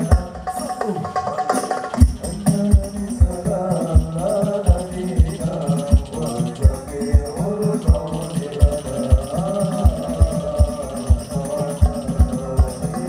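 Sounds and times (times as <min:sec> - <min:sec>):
deep drum beat: 0:00.0 - 0:13.0
group devotional singing: 0:00.0 - 0:13.0
hand percussion: 0:00.0 - 0:13.0.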